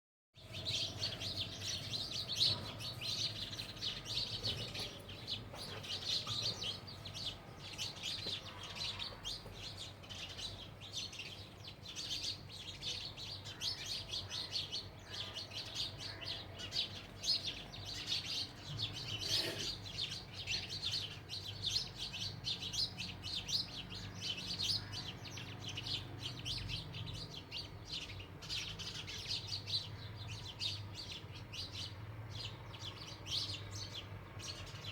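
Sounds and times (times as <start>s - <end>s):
sparrows chirping: 0.4s - 34.9s.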